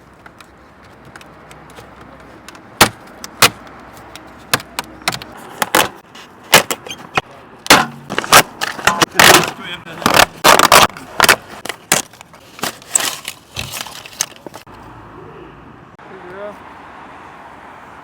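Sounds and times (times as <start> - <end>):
sharp irregular clicks and knocks: 0.2 - 14.6.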